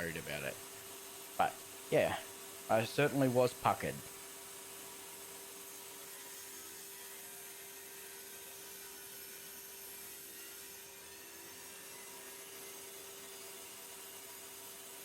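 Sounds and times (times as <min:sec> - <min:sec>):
table saw motor humming: 0:00.0 - 0:15.0.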